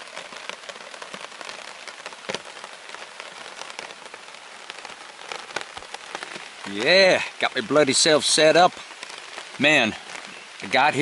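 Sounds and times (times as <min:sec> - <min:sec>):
rain pattering on a tarp: 0:00.0 - 0:11.0.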